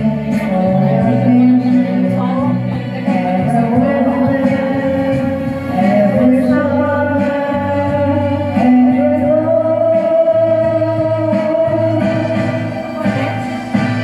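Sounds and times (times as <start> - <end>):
backing track with guitar: 0.0 - 14.0
person singing through microphone: 0.0 - 14.0.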